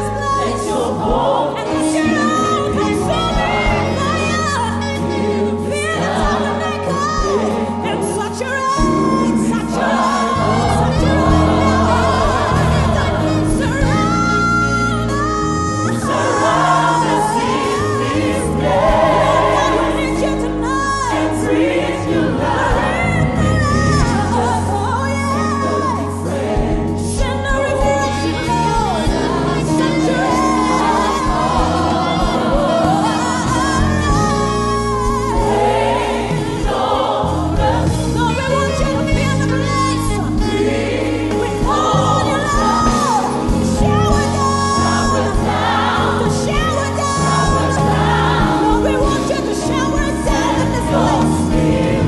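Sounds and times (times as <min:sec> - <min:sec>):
instrumental backing: 0:00.0 - 0:52.0
large choir singing: 0:00.0 - 0:52.0.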